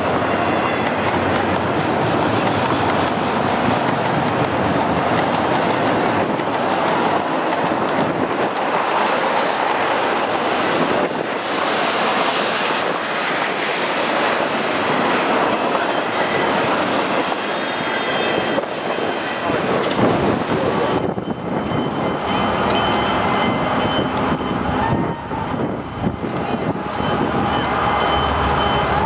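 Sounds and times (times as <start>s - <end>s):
steel wheels rushing on rail: 0.0s - 29.0s
wind buffeting microphone: 0.0s - 29.0s.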